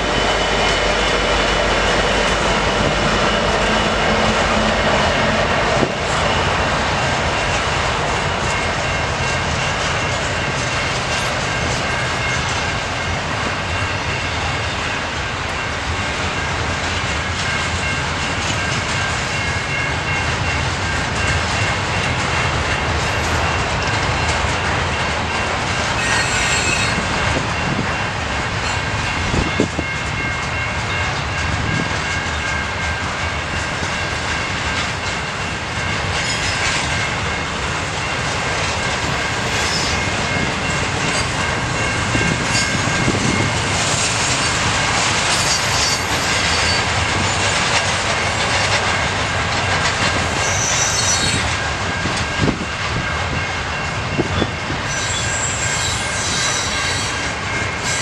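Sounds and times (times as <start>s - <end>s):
steel wheels on rail: 0.0s - 58.0s.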